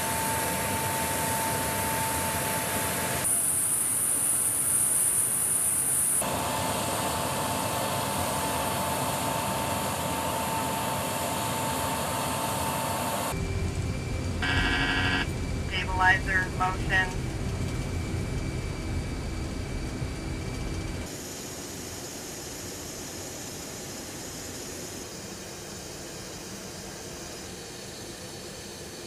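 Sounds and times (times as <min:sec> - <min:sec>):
aircraft turbine whine and rush: 0:00.0 - 0:29.0.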